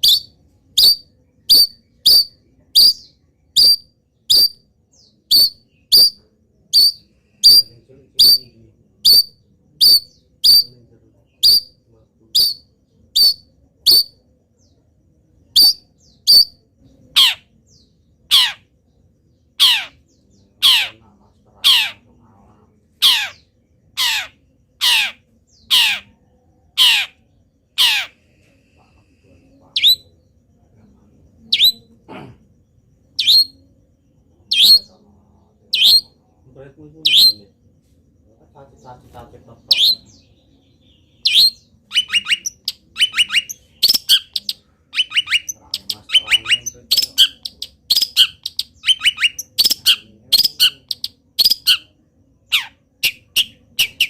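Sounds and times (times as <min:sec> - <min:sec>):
shrike calling: 0:00.0 - 0:37.6, 0:38.3 - 0:54.0.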